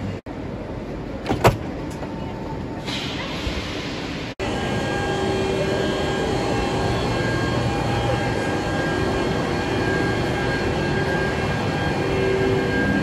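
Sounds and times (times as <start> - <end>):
train cooling fans whine and hum: 0.0 - 13.0.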